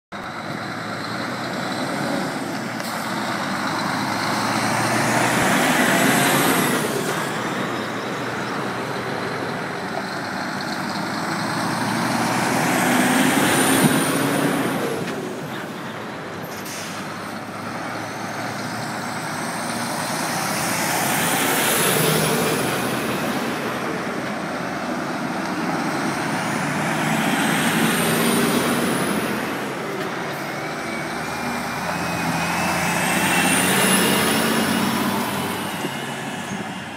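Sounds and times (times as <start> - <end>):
lorry diesel engines passing: 0.1 - 36.9.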